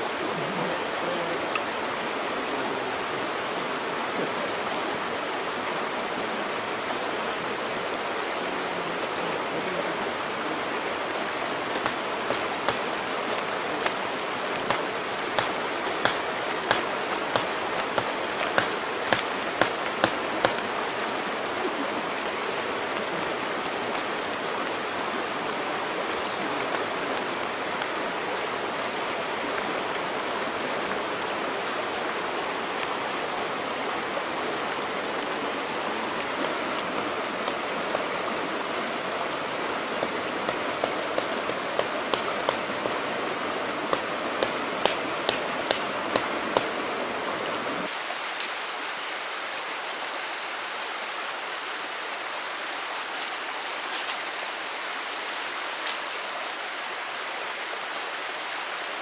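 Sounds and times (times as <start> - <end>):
campfire hiss: 0.0 - 59.0.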